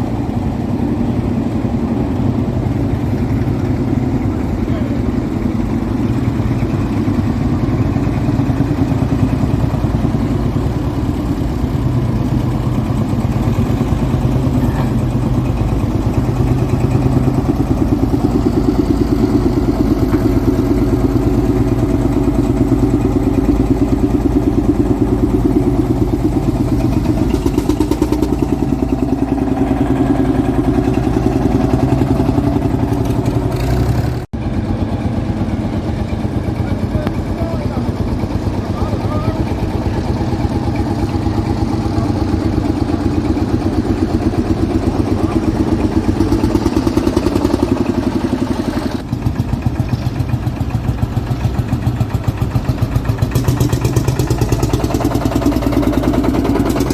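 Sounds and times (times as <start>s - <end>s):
tractor engines throbbing: 0.0s - 56.9s.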